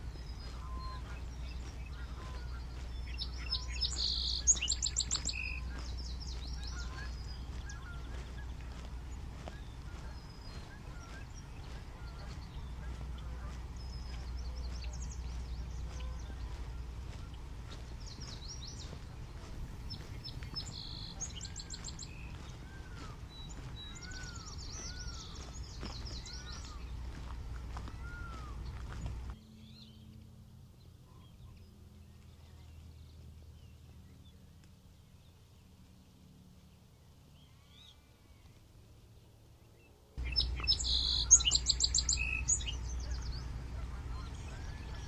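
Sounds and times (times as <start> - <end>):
songbirds chirping and trilling: 0.0 - 45.0.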